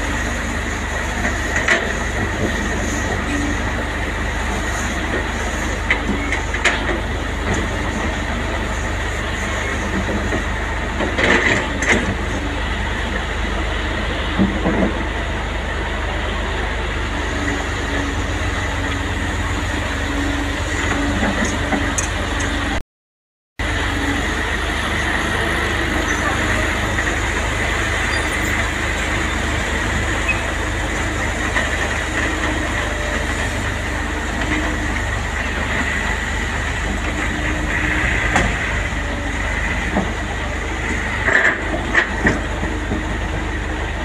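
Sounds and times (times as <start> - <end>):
excavator diesel engines running: 0.0 - 22.8, 23.6 - 44.0.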